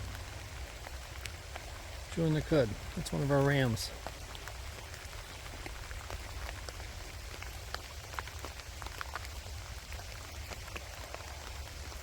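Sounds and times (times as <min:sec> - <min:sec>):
low steady rumble: 0:00.0 - 0:12.0
rain falling: 0:00.0 - 0:12.0
raindrops ticking on surfaces: 0:00.0 - 0:12.0.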